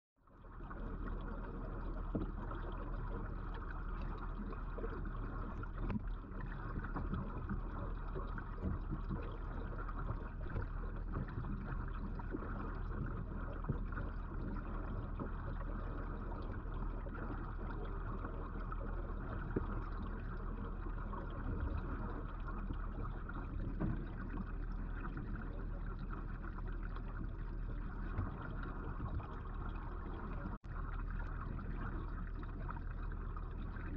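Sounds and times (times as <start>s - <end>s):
aquarium water rushing and trickling: 0.2s - 33.9s
low electrical hum: 0.2s - 33.9s.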